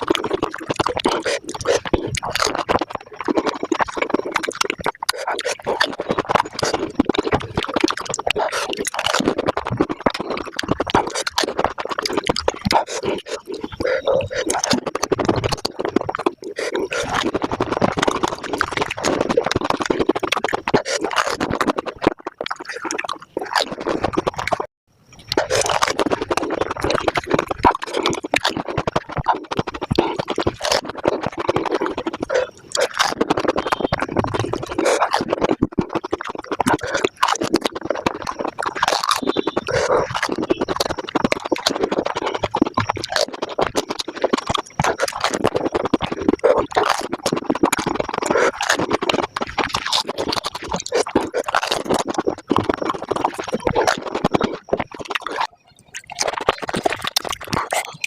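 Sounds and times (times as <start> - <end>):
sped-up crunching and chewing: 0.0 - 58.0.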